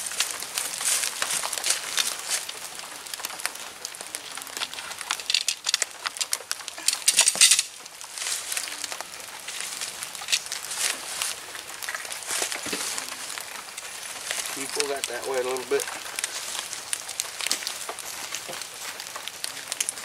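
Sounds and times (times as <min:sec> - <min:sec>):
tent poles clicking and rattling: 0:00.0 - 0:20.0.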